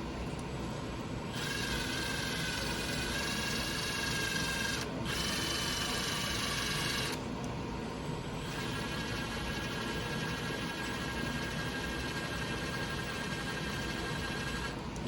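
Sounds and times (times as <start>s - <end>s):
power drill whining: 1.4s - 7.2s, 8.4s - 14.8s.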